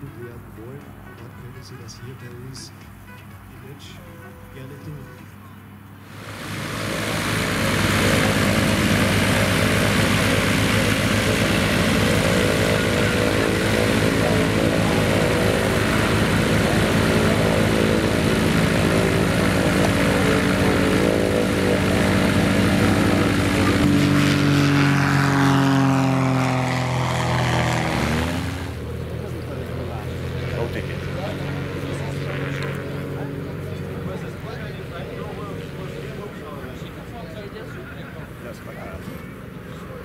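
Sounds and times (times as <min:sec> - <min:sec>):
light aircraft engine and propeller: 0:00.0 - 0:40.0.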